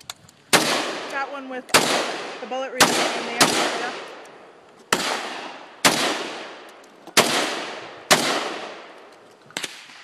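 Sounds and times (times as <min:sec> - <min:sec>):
rifle shots with echo: 0:00.5 - 0:10.0.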